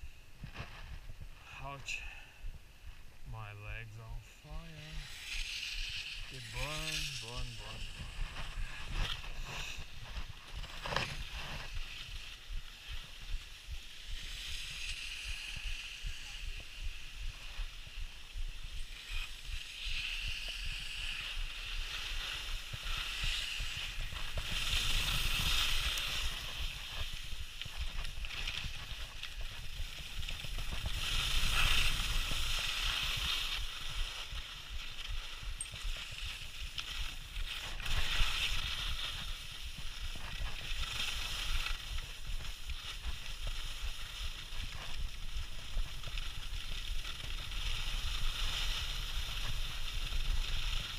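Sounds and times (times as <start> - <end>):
wind rumble on microphone: 0.0 - 4.1, 5.8 - 50.9
skis scraping over snow: 3.4 - 50.9.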